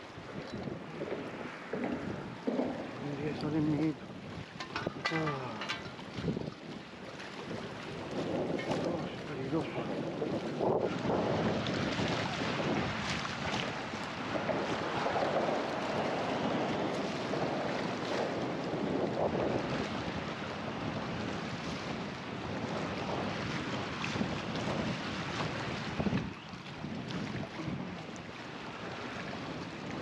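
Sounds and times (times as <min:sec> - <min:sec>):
choppy sea water: 0:00.0 - 0:30.0
wind buffeting microphone: 0:00.0 - 0:30.0.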